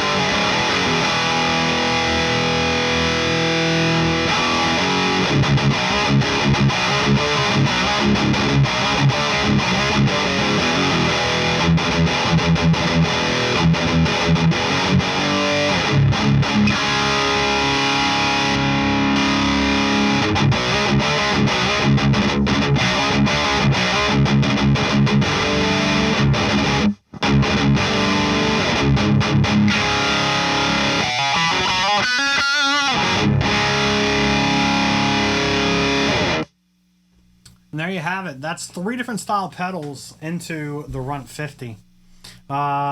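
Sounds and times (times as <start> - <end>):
distorted electric guitar riffing: 0.0 - 36.6.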